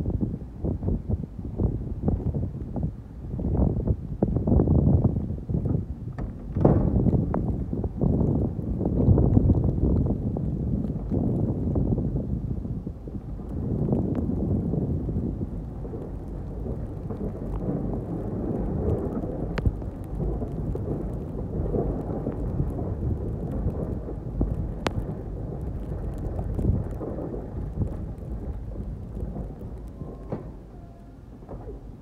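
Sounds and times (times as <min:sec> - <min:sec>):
truck plow pushing snow rumble: 0:03.4 - 0:32.0.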